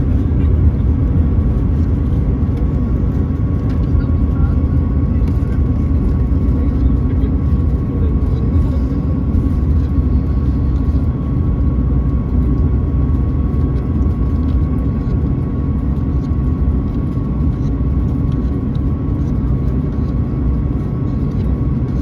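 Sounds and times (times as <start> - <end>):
aircraft cabin rumble: 0.0 - 22.0.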